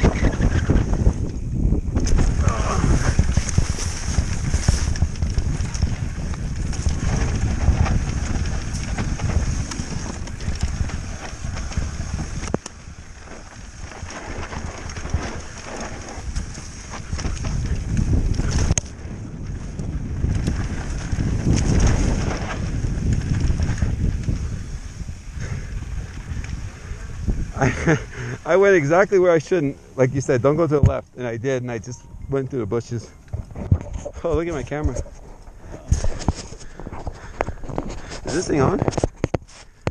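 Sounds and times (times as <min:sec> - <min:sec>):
mountain bike rattling: 0:00.0 - 0:39.9
wind buffeting microphone: 0:00.0 - 0:39.9.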